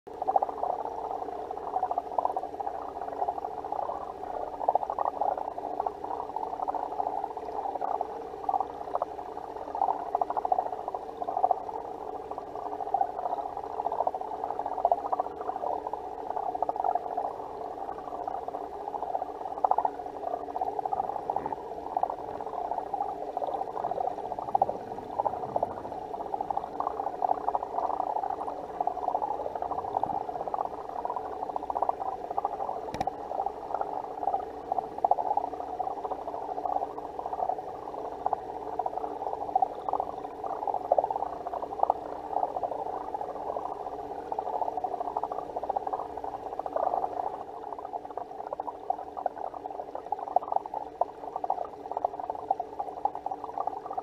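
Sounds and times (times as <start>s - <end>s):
muffled underwater water rush: 0.1s - 54.0s.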